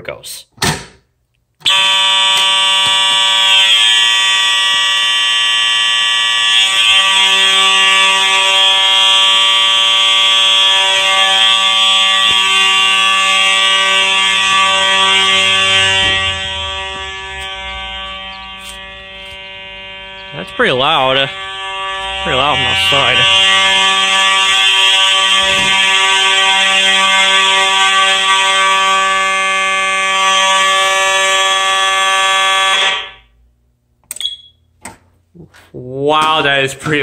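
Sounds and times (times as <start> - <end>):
fire alarm horn buzzing: 1.6 - 33.5.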